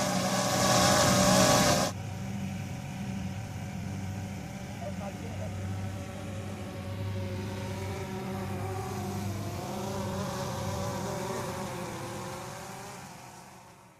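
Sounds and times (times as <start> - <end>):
drone propeller buzz: 0.0 - 13.9.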